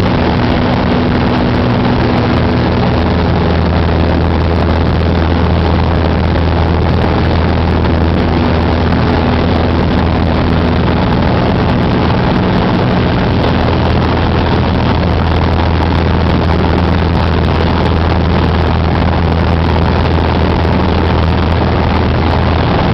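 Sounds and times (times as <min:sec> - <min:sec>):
propeller plane engine droning: 0:00.0 - 0:22.9.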